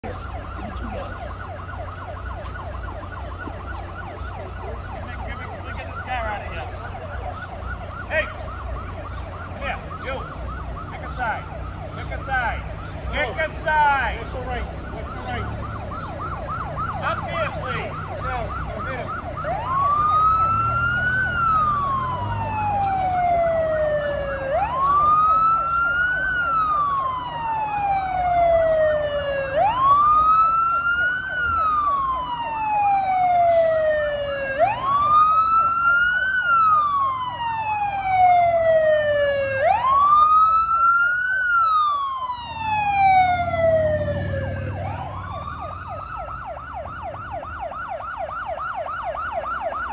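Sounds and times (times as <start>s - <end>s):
fast yelping siren: 0.0s - 49.9s
low vehicle rumble: 0.0s - 49.9s
siren in a slow wail: 0.0s - 49.9s.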